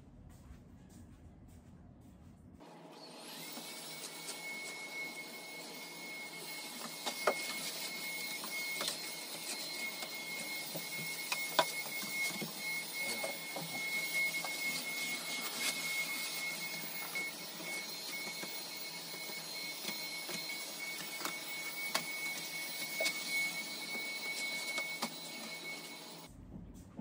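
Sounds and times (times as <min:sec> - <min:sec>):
vacuum cleaner motor whine: 0:02.6 - 0:26.3.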